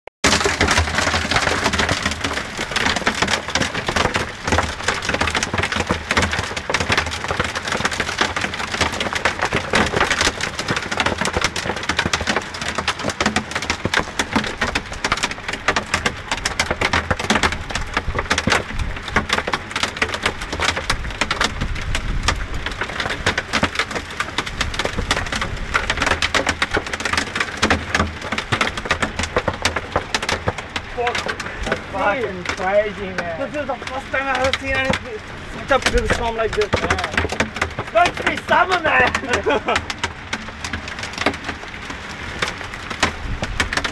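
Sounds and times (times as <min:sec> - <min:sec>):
hailstones pelting down: 0:00.2 - 0:43.9.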